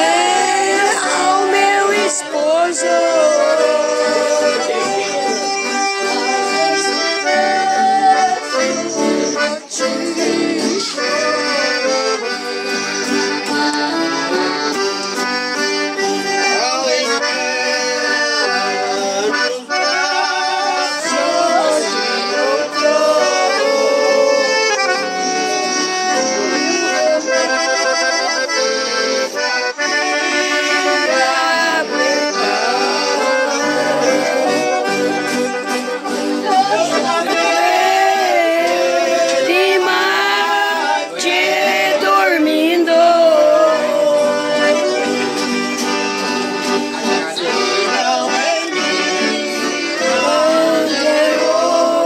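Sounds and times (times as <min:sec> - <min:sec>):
accordion music: 0:00.0 - 0:52.0.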